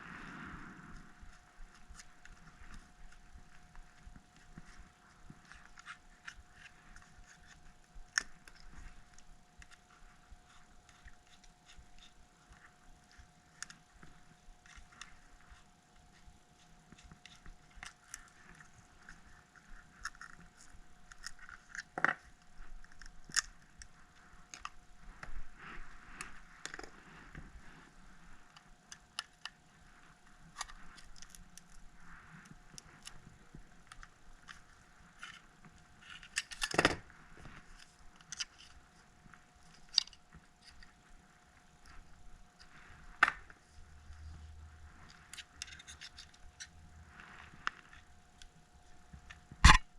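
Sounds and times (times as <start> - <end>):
faint steady tone: 0.0 - 49.9.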